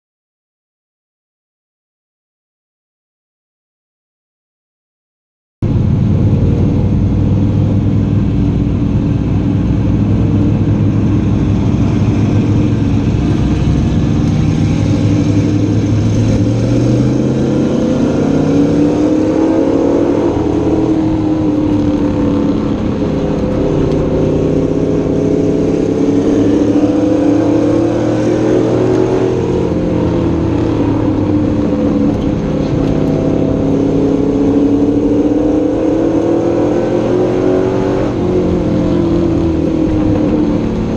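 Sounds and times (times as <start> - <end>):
truck engine revving: 5.6 - 40.9.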